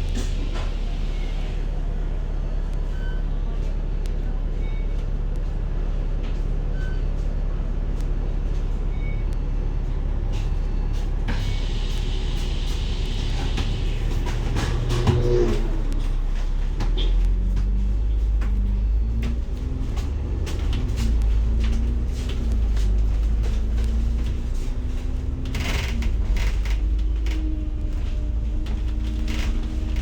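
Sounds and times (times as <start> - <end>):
bus engine rumble: 0.0 - 30.0.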